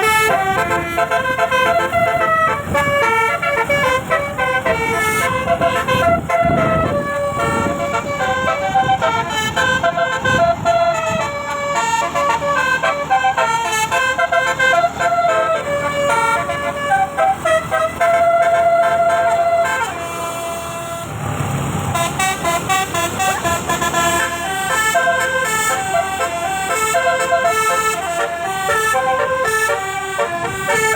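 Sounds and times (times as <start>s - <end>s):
musical air horn tune: 0.0s - 21.2s, 21.9s - 30.9s
vehicle low rumble: 0.0s - 30.9s.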